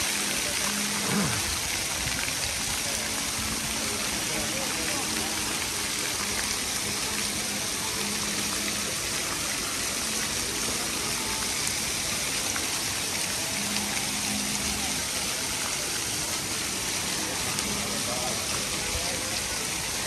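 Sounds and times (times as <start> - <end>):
fountain water splashing: 0.0 - 20.0.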